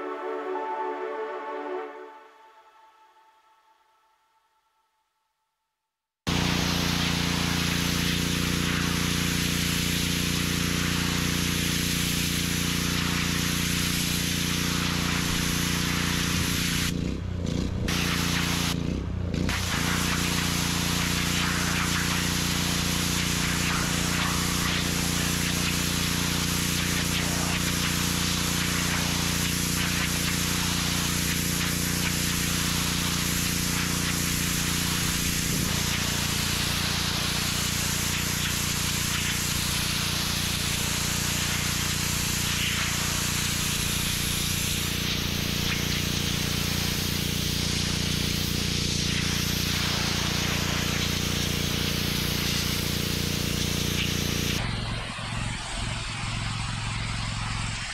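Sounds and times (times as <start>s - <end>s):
water spray hissing on brick: 6.3s - 54.6s
pressure washer engine running: 6.3s - 55.1s.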